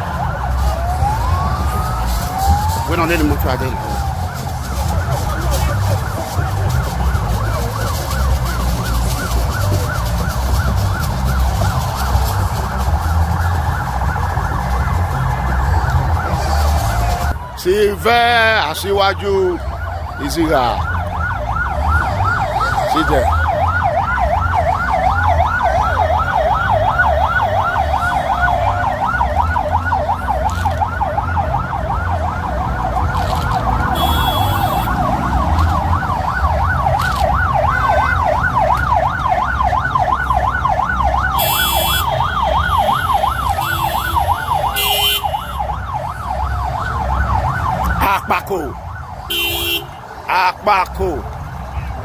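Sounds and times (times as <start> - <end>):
slower wailing siren: 0.0 - 50.3
vehicle siren fast yelp: 0.0 - 52.0.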